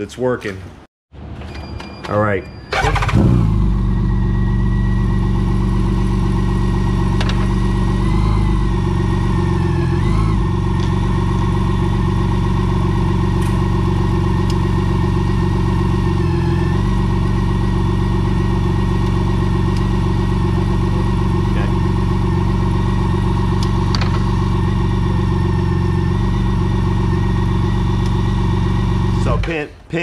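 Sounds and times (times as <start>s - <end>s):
engine idling: 2.8s - 29.6s.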